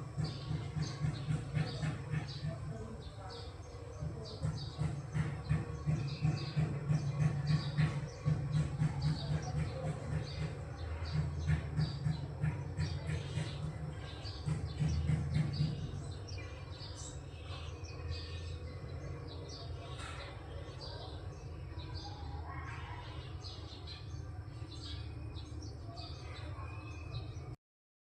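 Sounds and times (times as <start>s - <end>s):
birds chirping: 0.0s - 27.6s.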